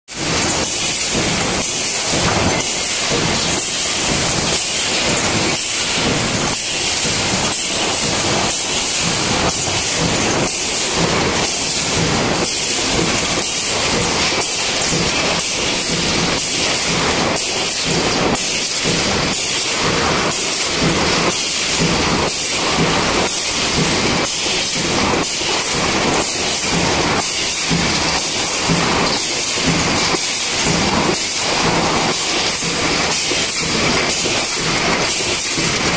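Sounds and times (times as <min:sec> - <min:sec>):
rhythmic industrial machine noise: 0:00.1 - 0:35.9.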